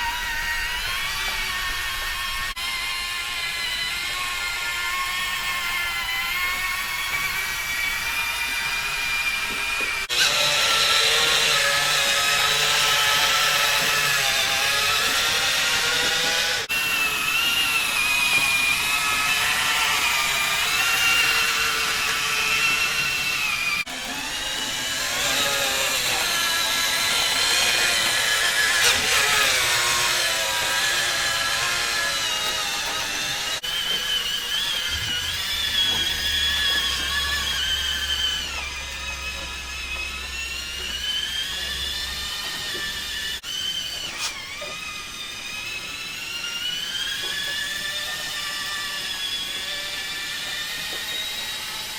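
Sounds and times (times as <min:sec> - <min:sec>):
electric motors whining: 0:00.0 - 0:51.9.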